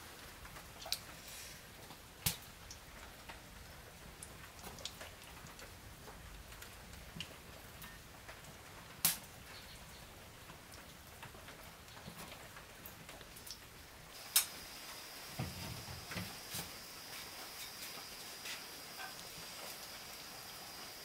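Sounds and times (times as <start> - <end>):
faint oil sizzle: 0.0 - 21.0.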